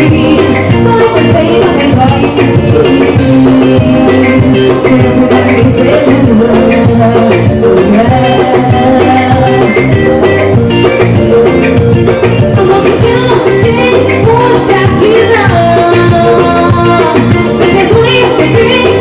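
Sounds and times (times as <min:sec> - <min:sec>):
woman singing into a microphone: 0:00.0 - 0:10.2, 0:12.4 - 0:19.0
electric guitar: 0:00.0 - 0:19.0.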